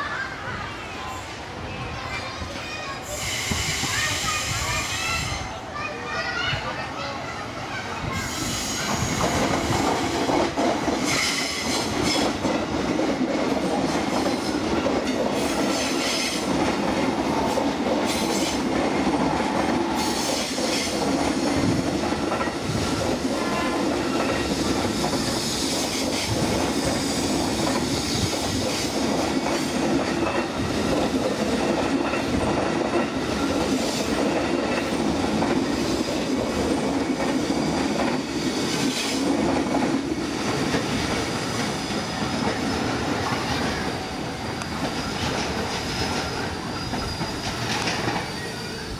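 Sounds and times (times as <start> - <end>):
electric train passing: 3.0 - 48.9.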